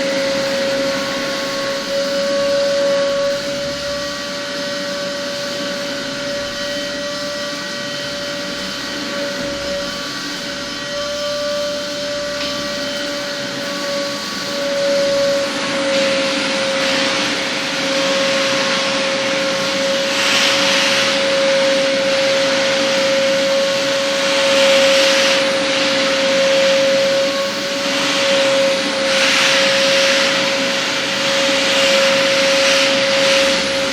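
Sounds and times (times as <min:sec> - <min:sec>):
rushing air hiss: 0:00.0 - 0:33.9
vacuum motor whine: 0:00.0 - 0:33.9.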